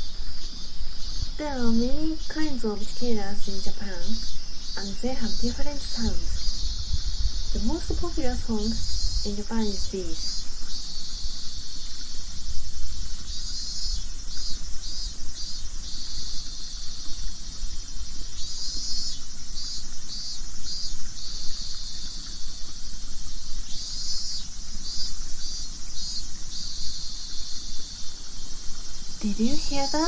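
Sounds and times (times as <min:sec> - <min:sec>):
cicada pulsing song: 0:00.0 - 0:30.0
high insect drone: 0:00.0 - 0:30.0.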